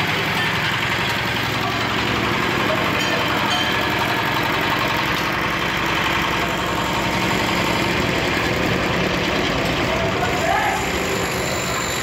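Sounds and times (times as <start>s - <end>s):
hoist engine running: 0.0s - 12.0s.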